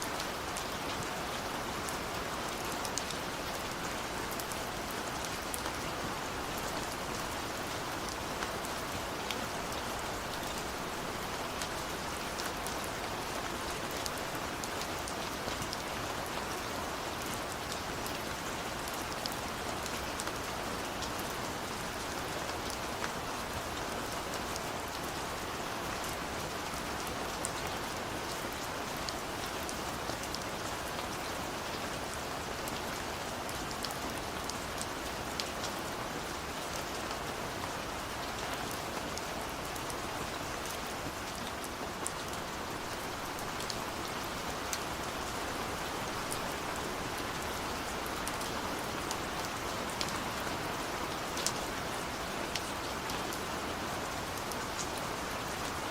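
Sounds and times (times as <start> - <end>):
rain on a window: 0.0 - 55.9.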